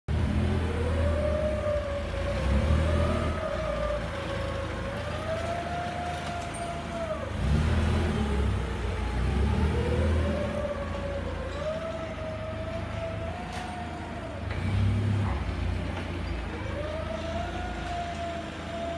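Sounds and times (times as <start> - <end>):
forklift engine rumble: 0.1 - 18.9
forklift whine: 0.1 - 18.9.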